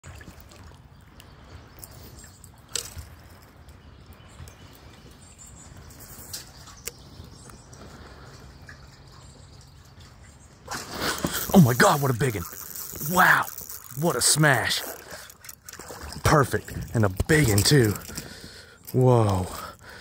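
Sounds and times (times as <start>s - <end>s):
water lapping: 0.0s - 20.0s.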